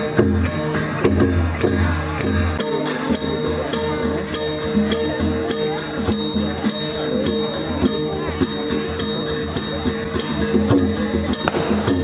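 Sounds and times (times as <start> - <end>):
cymbals clashing: 0.0 - 12.0.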